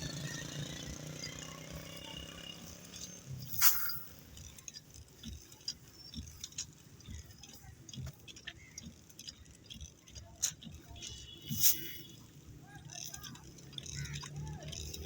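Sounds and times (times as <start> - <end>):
engine running: 0.0 - 15.0
faint clicks: 0.3 - 15.0.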